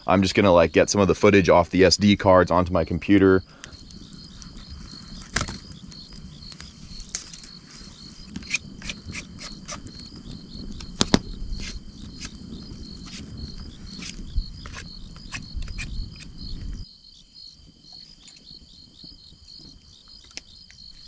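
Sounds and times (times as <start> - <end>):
campfire crackling and popping: 0.0 - 16.9, 17.6 - 21.0
crickets chirping: 0.0 - 21.0.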